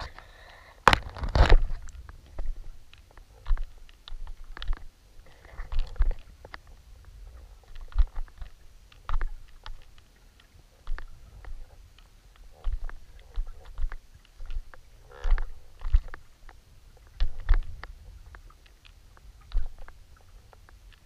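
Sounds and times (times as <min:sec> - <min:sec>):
underwater clicks and knocks: 0:00.0 - 0:21.0
underwater water rumble: 0:01.0 - 0:21.0.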